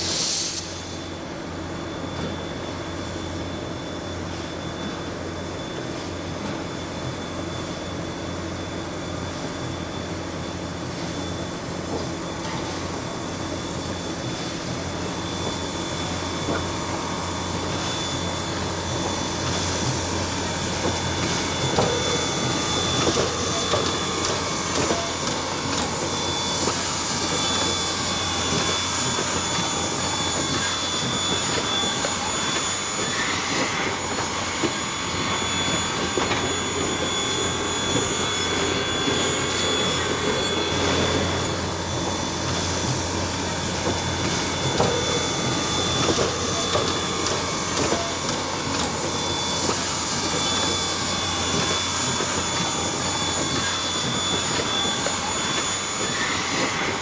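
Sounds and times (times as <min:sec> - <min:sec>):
steam locomotive exhaust rushing: 0:00.0 - 0:57.0.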